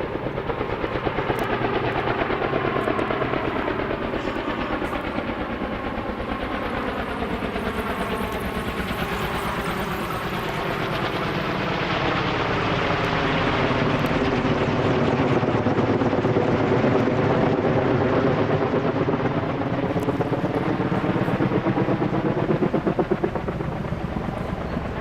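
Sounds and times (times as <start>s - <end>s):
helicopter rotor beating: 0.0s - 25.0s.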